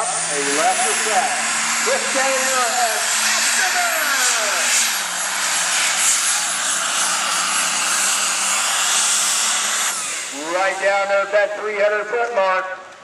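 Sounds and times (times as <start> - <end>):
tractor diesel engine flat out: 0.0 - 11.7.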